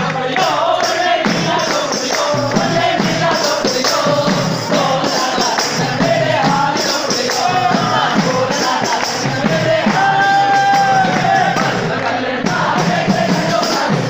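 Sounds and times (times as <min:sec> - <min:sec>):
crowd singing together: 0:00.0 - 0:14.0
tambourines beaten: 0:00.0 - 0:14.0.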